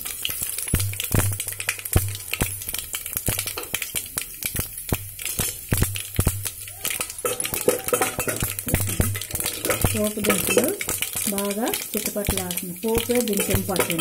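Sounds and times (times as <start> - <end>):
spices spluttering in hot oil: 0.0 - 14.0.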